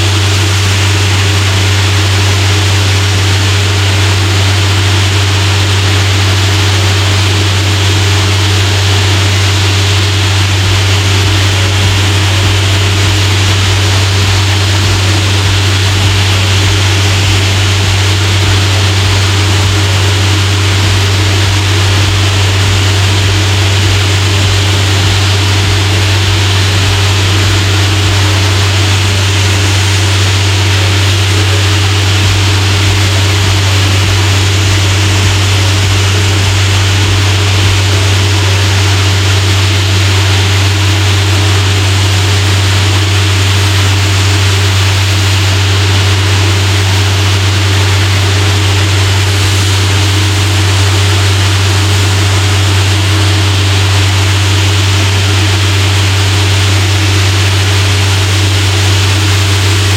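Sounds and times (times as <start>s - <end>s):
air compressor low drone: 0.0s - 59.9s
compressed air hissing: 0.0s - 59.9s.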